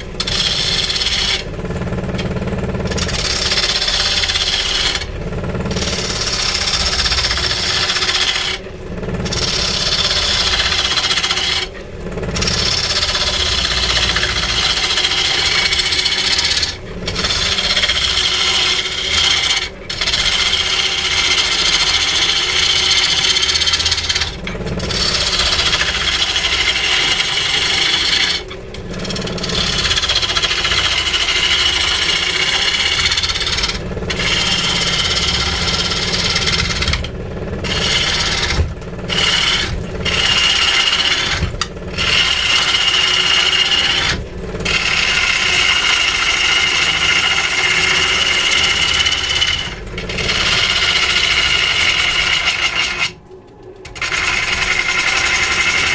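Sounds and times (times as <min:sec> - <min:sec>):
tool rasping into wood: 0:00.0 - 0:53.2, 0:53.9 - 0:55.9.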